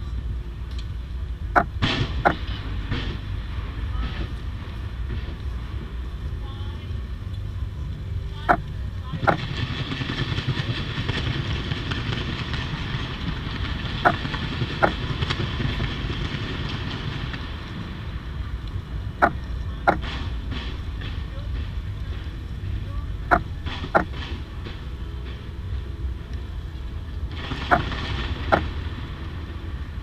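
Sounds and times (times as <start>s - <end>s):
fireworks rumbling and crackling: 1.7s - 30.0s.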